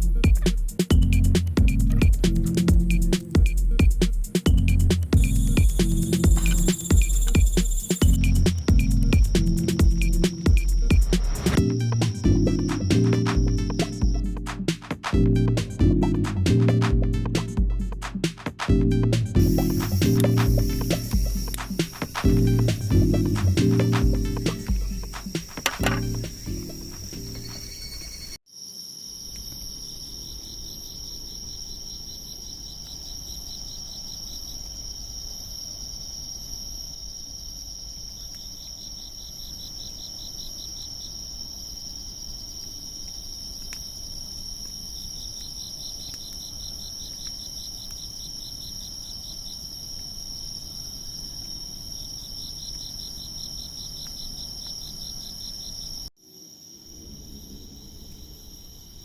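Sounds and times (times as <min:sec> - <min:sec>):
rapidly pulsing insect trill: 0:00.0 - 0:14.7, 0:19.4 - 0:59.0
steady high insect trill: 0:02.2 - 0:14.4, 0:19.4 - 0:59.0.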